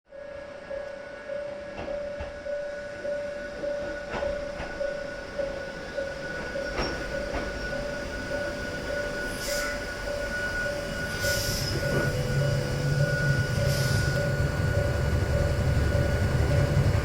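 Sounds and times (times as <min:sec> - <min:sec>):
pulsing steady tone: 0:00.1 - 0:17.0.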